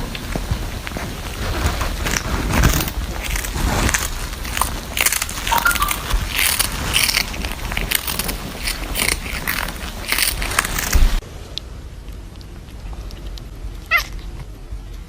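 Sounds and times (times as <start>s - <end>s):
crunchy food being chewed: 0.0s - 11.2s, 12.0s - 15.0s.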